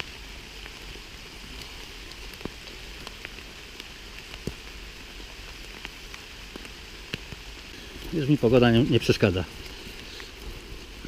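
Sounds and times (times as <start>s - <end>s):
raindrops ticking: 0.0s - 11.0s
steady rain hiss: 0.0s - 11.0s.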